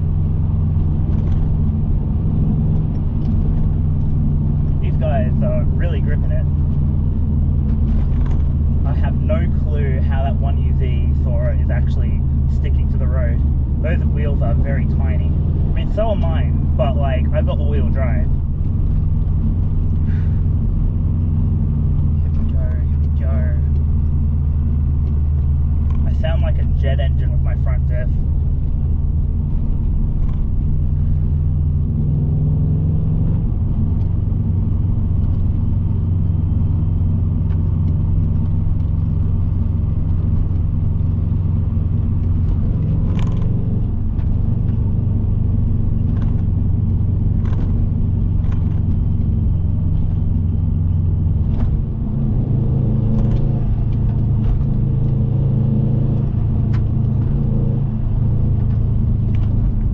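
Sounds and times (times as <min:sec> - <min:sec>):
car cabin engine and road drone: 0:00.0 - 0:59.9
drivetrain whine: 0:00.0 - 0:59.9.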